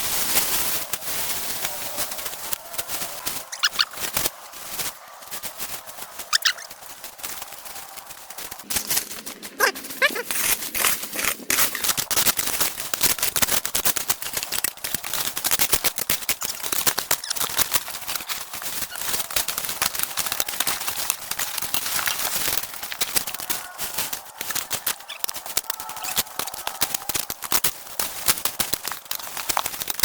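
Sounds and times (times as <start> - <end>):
brush crackling and rustling: 0.0 - 30.0.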